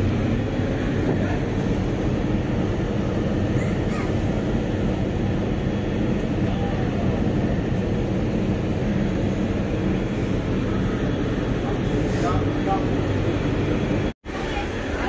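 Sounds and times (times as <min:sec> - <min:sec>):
ship engines rumbling: 0:00.0 - 0:15.0.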